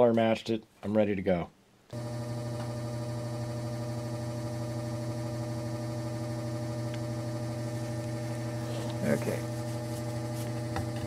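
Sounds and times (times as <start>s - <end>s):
ventilation fan humming: 1.8s - 11.0s.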